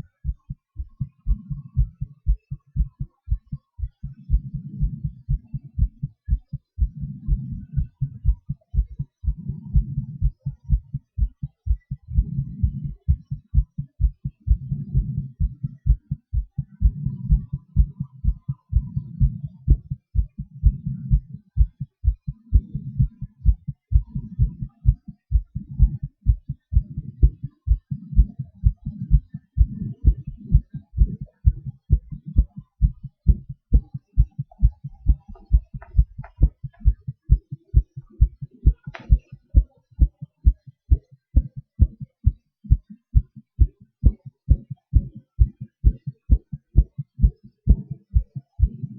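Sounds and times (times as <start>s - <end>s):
human heartbeat: 0.0s - 48.9s.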